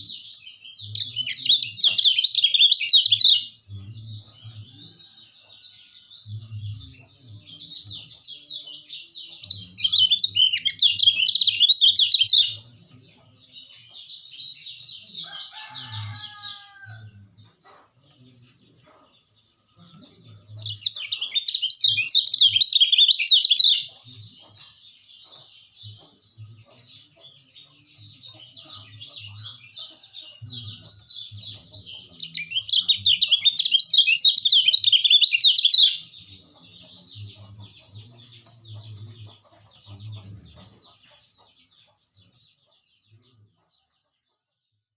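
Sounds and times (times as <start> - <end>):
bird chattering song: 0.0 - 16.8, 17.4 - 44.0.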